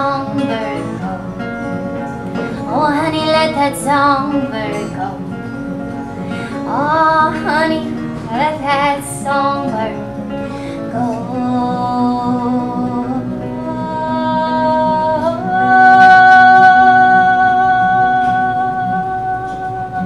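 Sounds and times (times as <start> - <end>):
softly strummed guitar: 0.0 - 20.0.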